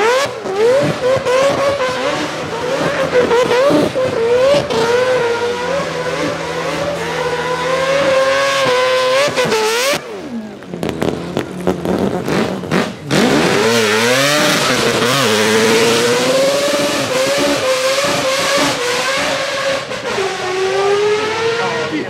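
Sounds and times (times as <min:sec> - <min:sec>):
rotary engine screaming at high revs: 0:00.0 - 0:22.0.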